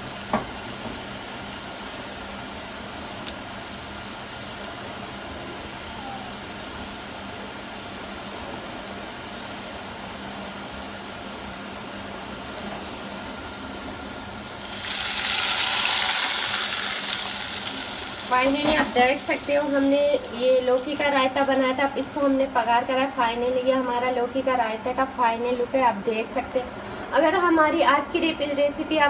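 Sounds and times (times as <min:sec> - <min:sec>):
spices sizzling in hot oil: 0:00.0 - 0:26.0
loud sizzling hiss: 0:00.0 - 0:26.1.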